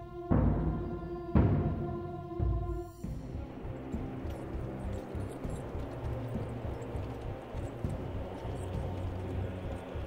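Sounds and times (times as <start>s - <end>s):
low ambient music: 0.0s - 10.0s.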